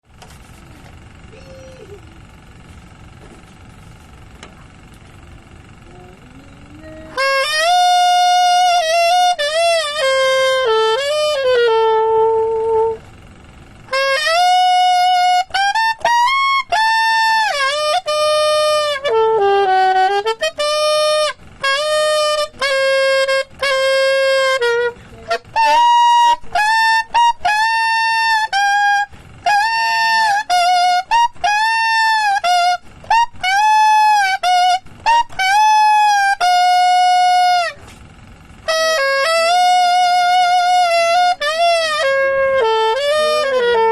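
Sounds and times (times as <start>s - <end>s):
saxophone playing melodic phrases: 4.8s - 43.9s.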